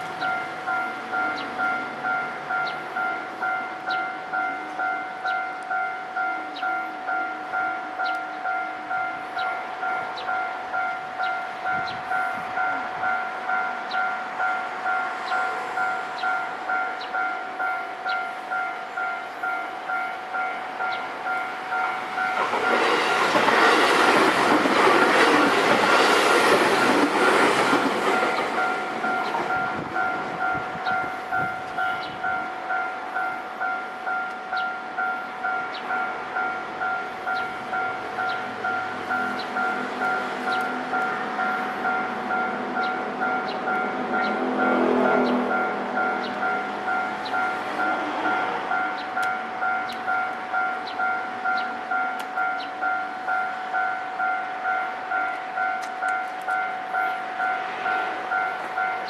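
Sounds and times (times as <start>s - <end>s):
level crossing bell clanging: 0.0s - 59.0s
train passing: 0.0s - 59.0s.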